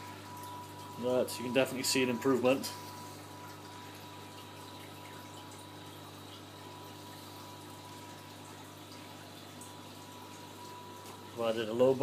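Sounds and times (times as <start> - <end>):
aquarium pump hum: 0.0 - 12.0
circulating water washing: 0.0 - 12.0.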